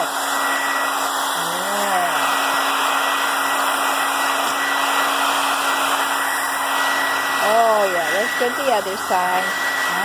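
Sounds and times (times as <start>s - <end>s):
blow dryer running: 0.0s - 10.0s.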